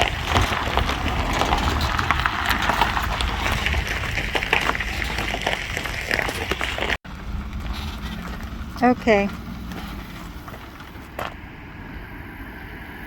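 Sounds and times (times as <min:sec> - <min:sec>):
truck engine rumble and hiss: 0:00.0 - 0:13.0.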